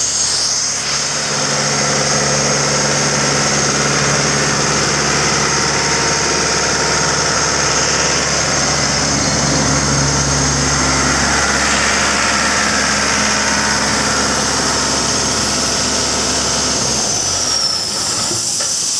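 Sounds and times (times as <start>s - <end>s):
diesel engine running steadily: 0.0s - 18.9s.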